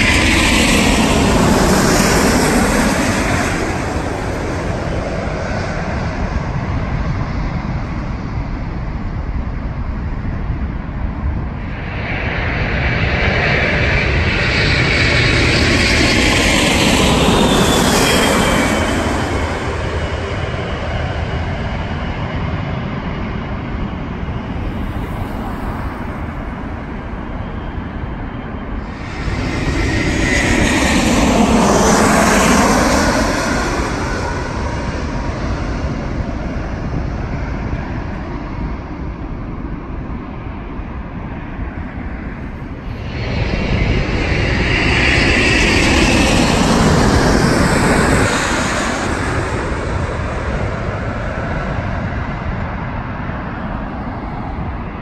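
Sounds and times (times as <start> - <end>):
high jet engine whine: 0.0 - 55.0
jet airliners passing overhead: 0.0 - 55.0.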